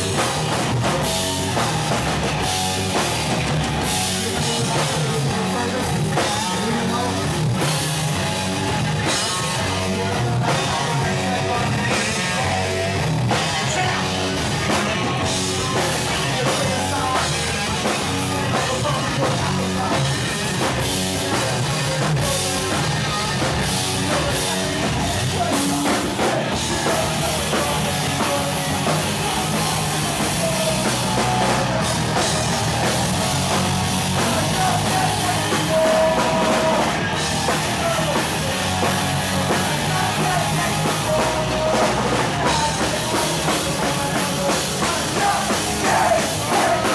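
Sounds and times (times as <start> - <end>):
bass guitar: 0.0 - 46.9
drum kit beat: 0.0 - 46.9
electric guitars: 0.0 - 46.9.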